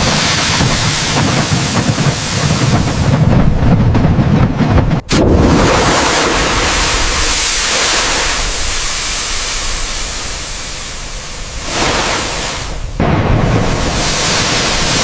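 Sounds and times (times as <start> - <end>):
loud rushing hiss: 0.0 - 3.6, 5.1 - 15.0.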